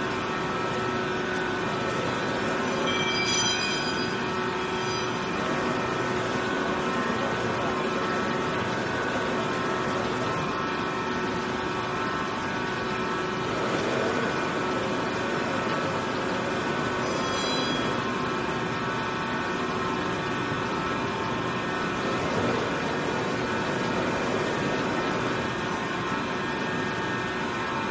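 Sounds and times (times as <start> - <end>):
tyre cutting machine running: 0.0 - 27.5.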